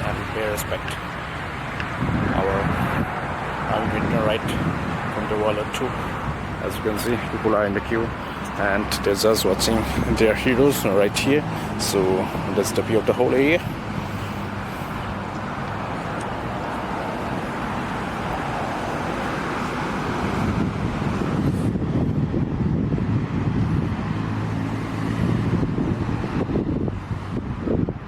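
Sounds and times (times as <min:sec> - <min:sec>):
passing tyre noise: 0:00.0 - 0:28.0
vehicle engines humming: 0:00.0 - 0:28.0.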